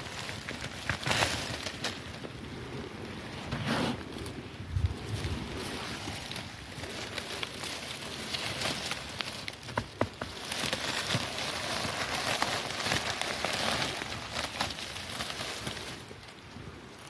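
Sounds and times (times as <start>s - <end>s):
grass and leaves rustling: 0.0s - 17.0s.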